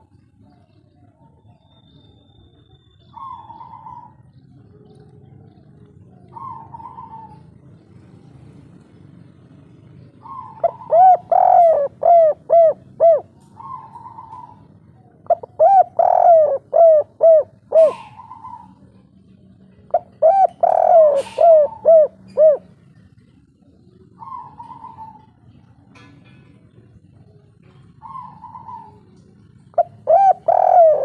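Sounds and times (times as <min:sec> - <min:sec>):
dove cooing: 0:00.0 - 0:31.0.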